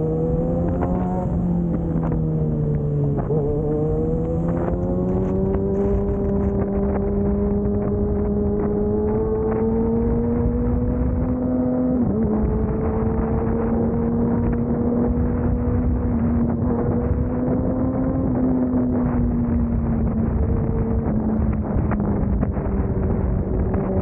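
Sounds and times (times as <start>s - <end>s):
low wind rumble: 0.0s - 24.0s
motorcycle engine cruising: 0.0s - 24.0s.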